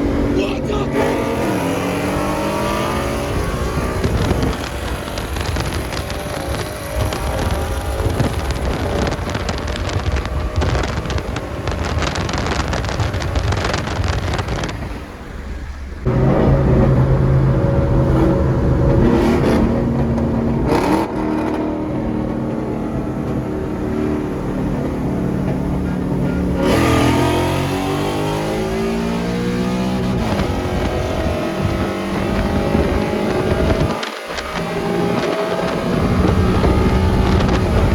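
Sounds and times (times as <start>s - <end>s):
car accelerating past: 0.0s - 37.9s
car engines running: 0.0s - 37.9s.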